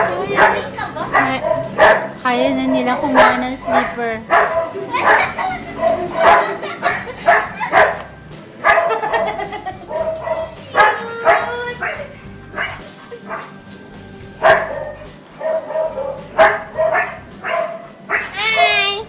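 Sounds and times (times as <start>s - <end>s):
puppies barking and yapping: 0.0s - 19.0s.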